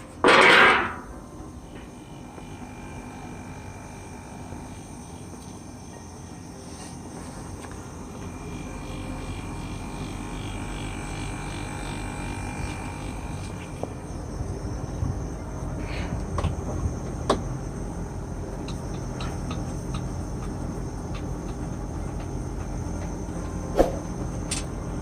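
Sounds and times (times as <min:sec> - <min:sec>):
machine low hum with whine: 0:00.0 - 0:25.0.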